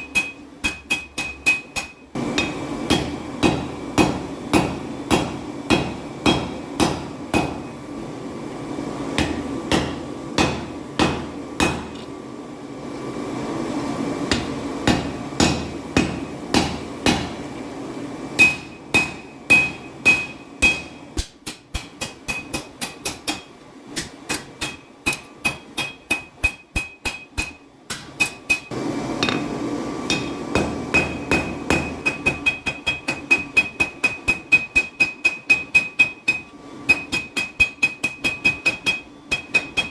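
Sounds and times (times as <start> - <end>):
hammer striking steel on anvil: 0.0 - 7.7, 9.2 - 12.0, 14.3 - 17.4, 18.4 - 29.5, 30.1 - 39.9.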